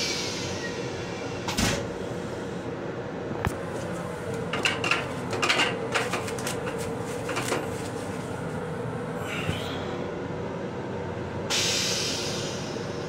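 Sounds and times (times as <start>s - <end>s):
railcar hum: 0.0s - 13.0s.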